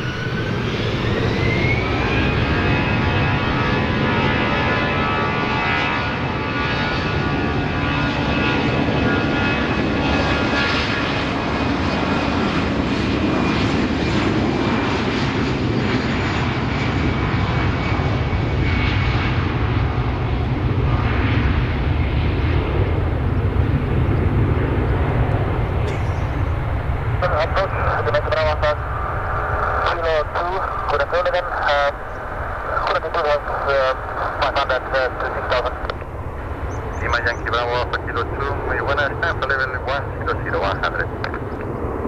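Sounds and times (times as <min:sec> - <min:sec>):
jet engine deep roar: 0:00.0 - 0:42.0
jet engine whine: 0:00.0 - 0:42.0.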